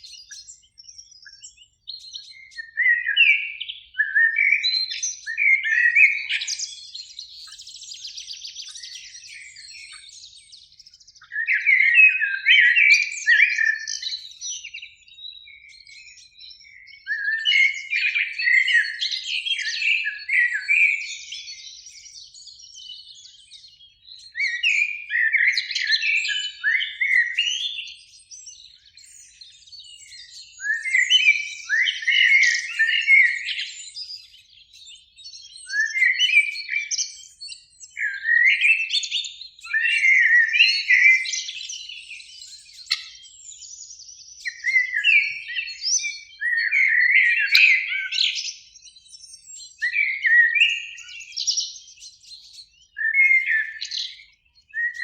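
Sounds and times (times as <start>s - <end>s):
blackbird singing: 0.0s - 55.0s.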